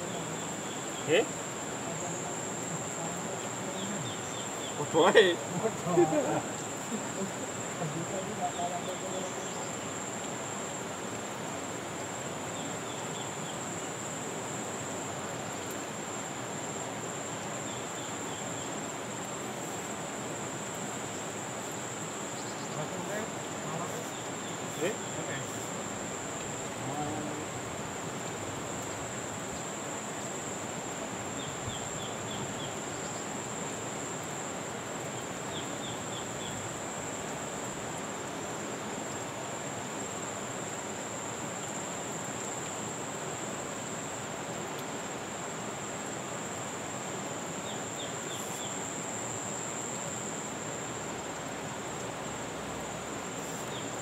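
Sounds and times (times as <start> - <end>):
high thin insect drone: 0.0 - 54.0
river rushing: 0.0 - 54.0.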